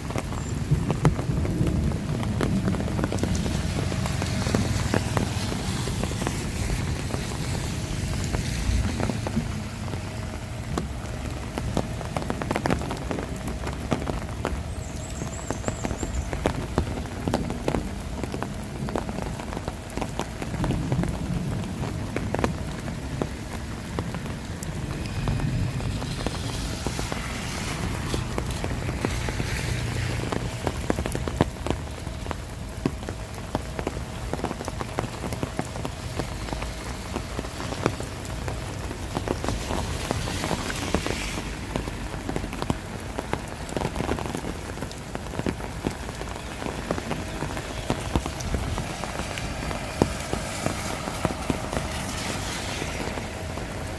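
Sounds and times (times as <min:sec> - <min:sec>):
rain drops ticking: 0:00.0 - 0:53.9
rain hiss: 0:00.0 - 0:53.9.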